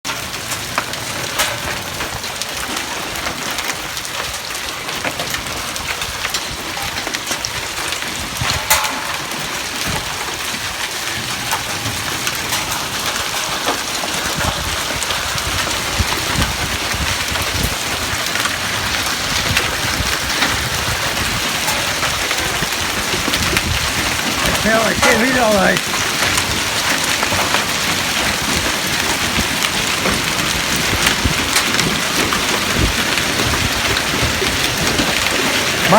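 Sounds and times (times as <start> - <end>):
hail pattering on hard surfaces: 0.1 - 35.9
hailstones cracking: 0.1 - 35.9.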